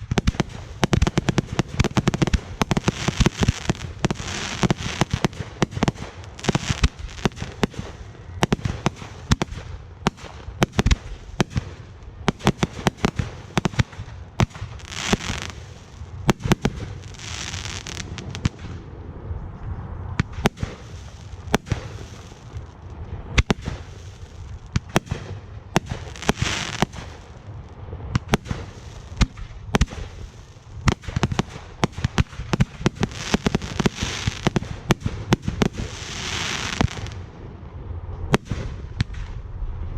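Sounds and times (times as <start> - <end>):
crackling hiss of fireworks: 0.0 - 39.9.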